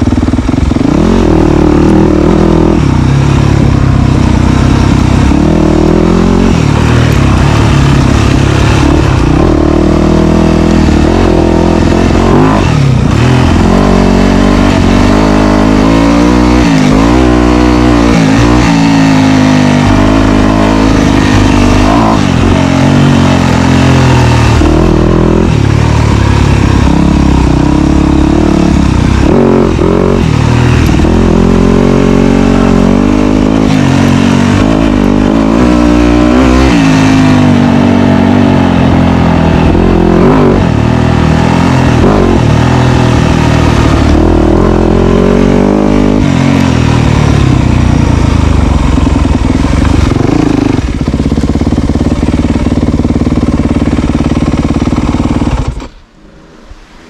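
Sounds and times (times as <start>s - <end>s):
dirt bike engine revving: 0.0s - 56.6s.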